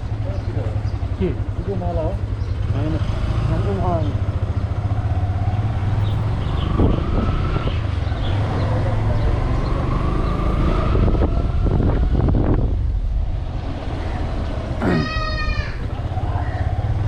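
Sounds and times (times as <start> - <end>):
motorcycle engine running: 0.0 - 14.8, 15.8 - 17.0.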